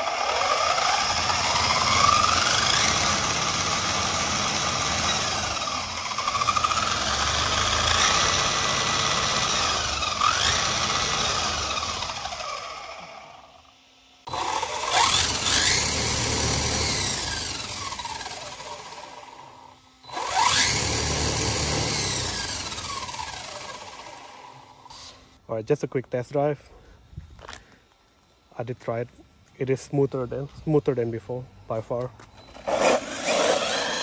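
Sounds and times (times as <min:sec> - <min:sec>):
electric motor and gears whining: 0:00.0 - 0:25.4, 0:27.0 - 0:34.0.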